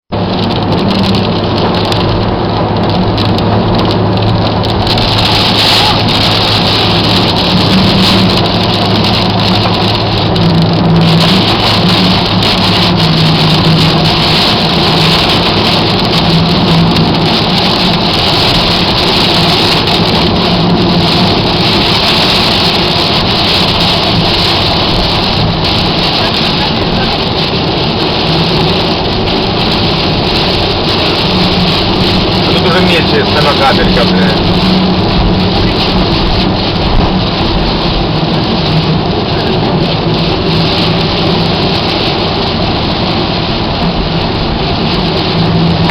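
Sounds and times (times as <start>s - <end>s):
heavy rain pouring: 0.1s - 45.9s.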